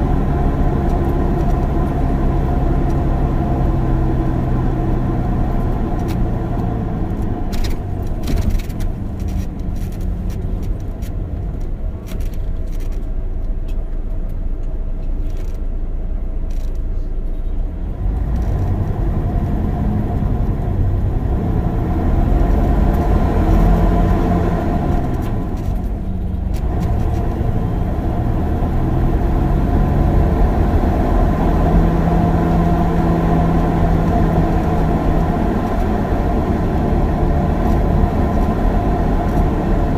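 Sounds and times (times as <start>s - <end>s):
bus engine humming: 0.0s - 39.9s
road noise: 0.0s - 39.9s.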